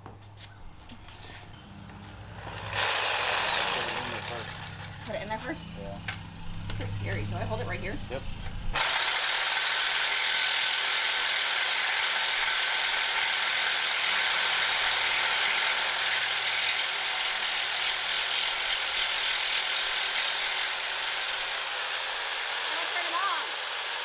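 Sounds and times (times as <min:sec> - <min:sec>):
electric saw cutting metal: 0:02.2 - 0:07.0, 0:08.7 - 0:24.0.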